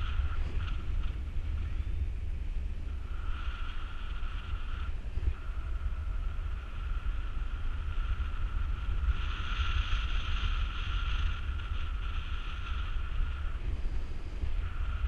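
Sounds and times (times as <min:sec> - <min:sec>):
high wind whistle: 0:00.0 - 0:15.0
wind rushing over microphone: 0:00.0 - 0:15.0.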